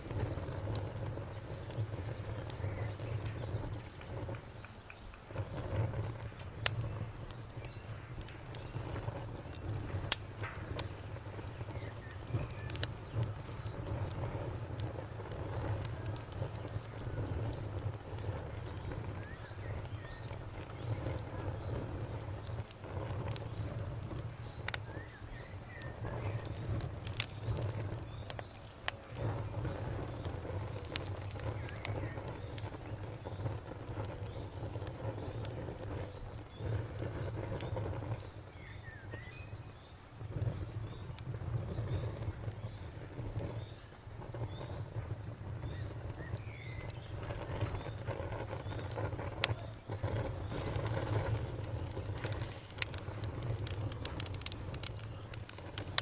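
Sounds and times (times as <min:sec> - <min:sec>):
crickets chirping: 0:00.0 - 0:56.0
fire crackling and popping: 0:00.0 - 0:56.0.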